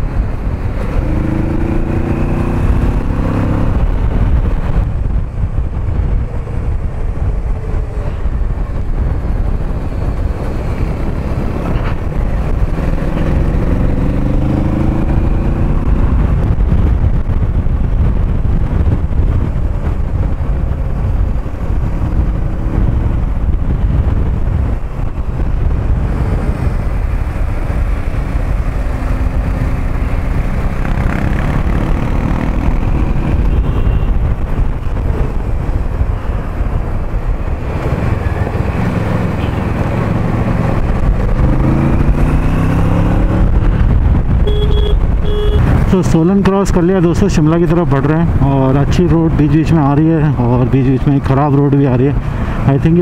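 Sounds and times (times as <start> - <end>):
wind and road noise: 0.0 - 53.0.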